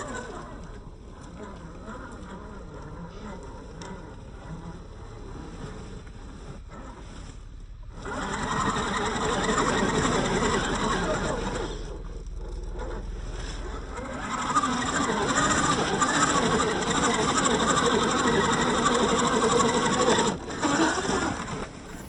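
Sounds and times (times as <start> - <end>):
toy truck motors whirring: 0.0 - 22.0.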